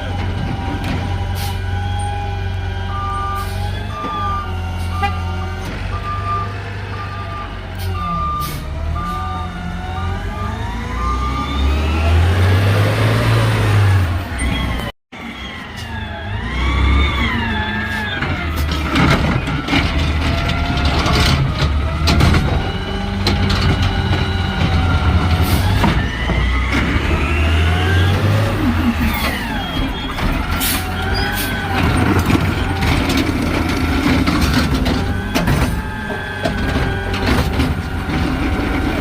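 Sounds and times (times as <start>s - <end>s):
garbage truck engine revving: 0.0s - 39.0s.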